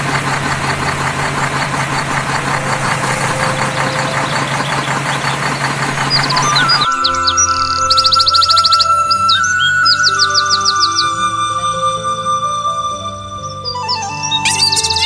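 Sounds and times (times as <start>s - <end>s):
tractor engine chugging: 0.0s - 12.4s
bird chirps: 0.4s - 11.8s, 12.4s - 15.0s.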